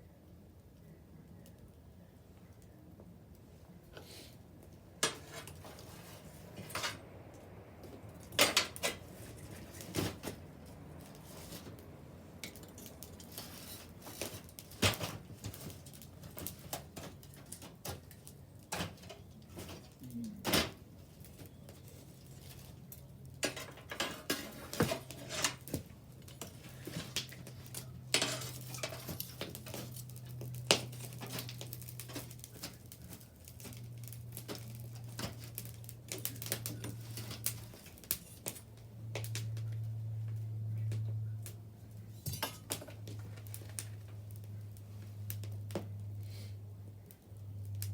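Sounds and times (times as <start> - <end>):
low steady hum: 0.0 - 47.9
bonfire crackling and popping: 0.2 - 47.9.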